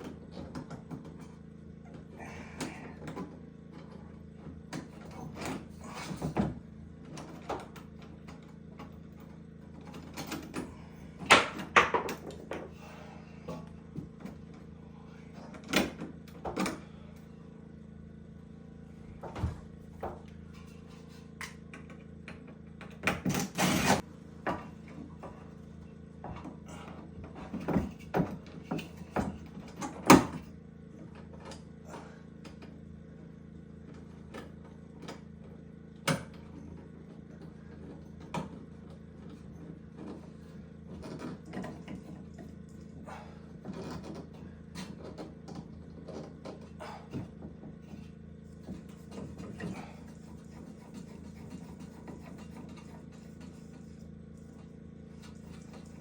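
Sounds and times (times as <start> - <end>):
knocks and clatter of work: 0.0 - 17.0, 19.0 - 56.0
steady low hum: 0.0 - 56.0.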